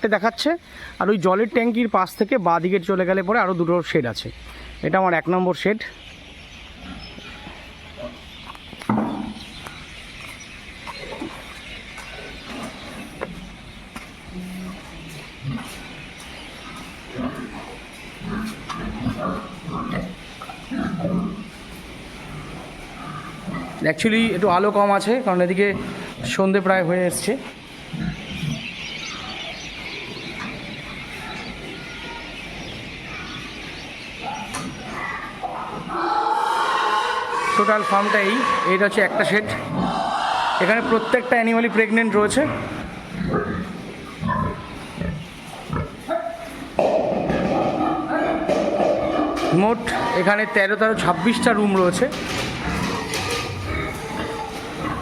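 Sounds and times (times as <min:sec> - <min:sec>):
chirping bird-like animal calls: 0:00.2 - 0:51.8
pigs grunting and squealing: 0:10.8 - 0:55.0.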